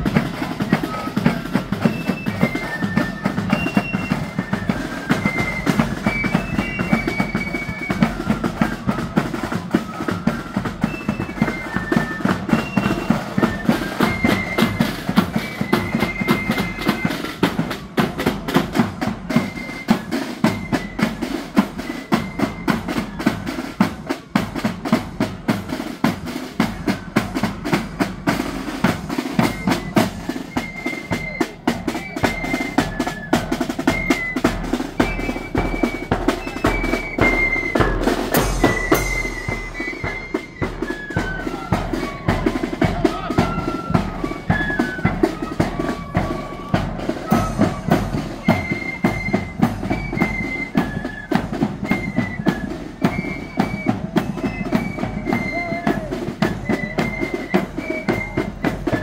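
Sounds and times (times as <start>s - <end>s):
flute melody: 0.0s - 59.0s
snare drum rolls: 0.0s - 59.0s.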